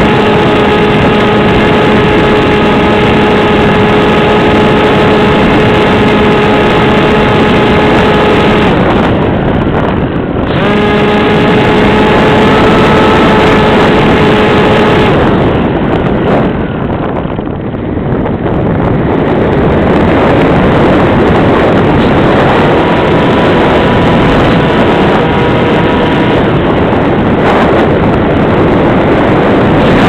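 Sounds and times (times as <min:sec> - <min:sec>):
electric motor high whine: 0:00.0 - 0:09.2, 0:10.4 - 0:15.9, 0:20.0 - 0:30.0
wind rushing: 0:00.0 - 0:30.0.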